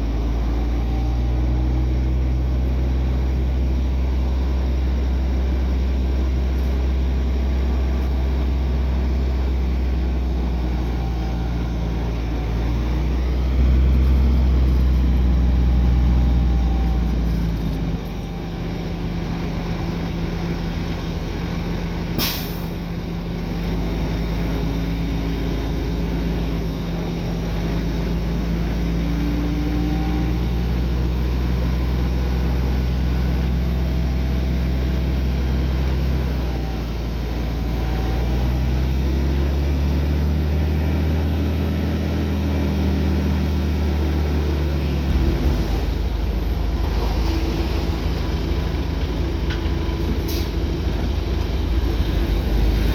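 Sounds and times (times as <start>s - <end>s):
heavy diesel engine running: 0.0s - 52.9s.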